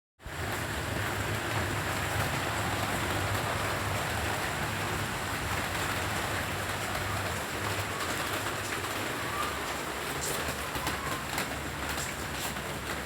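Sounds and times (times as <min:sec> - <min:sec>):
steady rain falling: 0:00.2 - 0:13.0.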